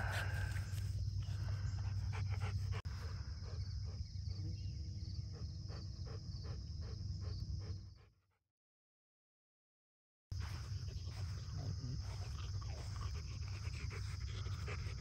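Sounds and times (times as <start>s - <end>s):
dog panting: 0.0s - 4.4s, 5.0s - 8.2s, 10.4s - 15.0s.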